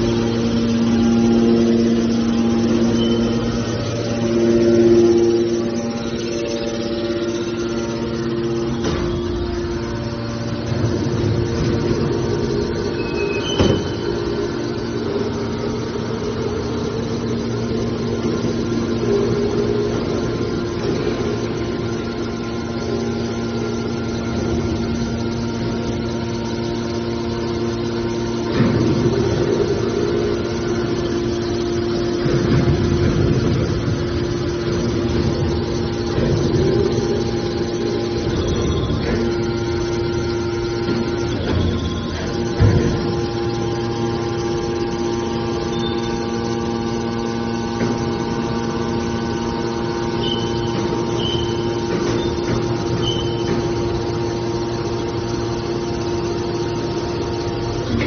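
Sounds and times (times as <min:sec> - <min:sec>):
hydraulic baler droning: 0:00.0 - 0:58.0.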